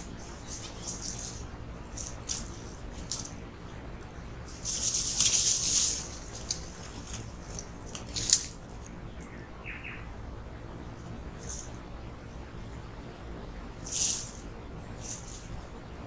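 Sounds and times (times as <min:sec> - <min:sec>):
animals scampering through dry leaves: 0:00.0 - 0:10.1, 0:10.8 - 0:12.4, 0:13.6 - 0:16.0.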